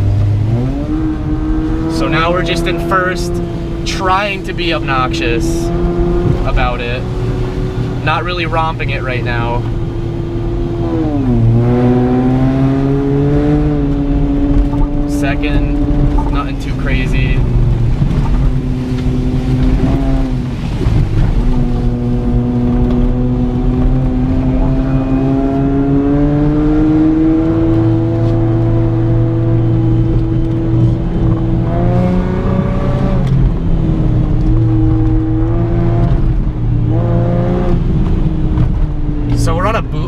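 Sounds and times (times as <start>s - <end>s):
car engine from inside cabin: 0.0s - 40.0s.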